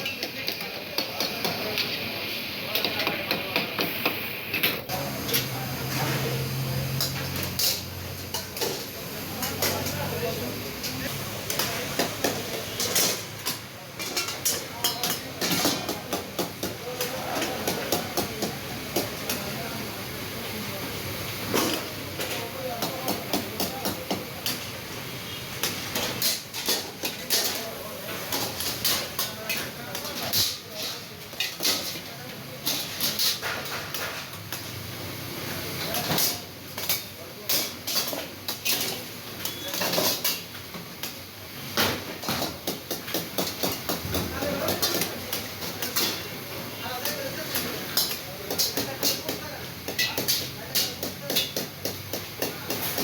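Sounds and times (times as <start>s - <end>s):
utensil clanking and scraping wok: 0.0s - 53.0s.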